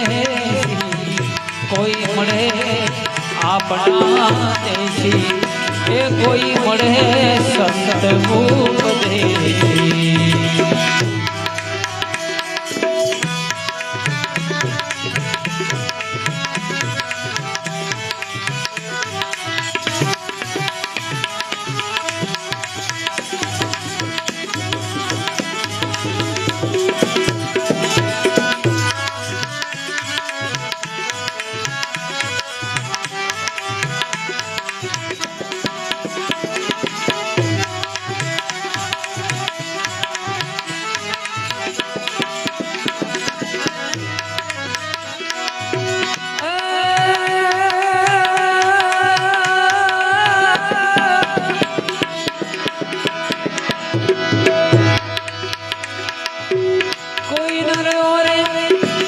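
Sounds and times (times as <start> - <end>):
held instrumental notes: 0.0 - 59.0
tabla playing a steady rhythm: 0.0 - 59.0.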